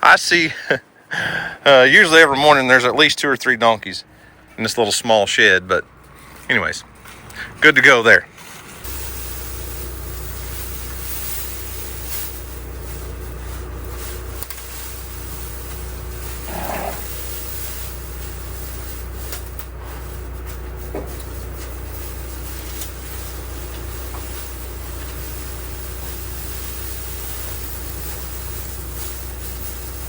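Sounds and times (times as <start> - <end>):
steady low hum: 3.6 - 30.0.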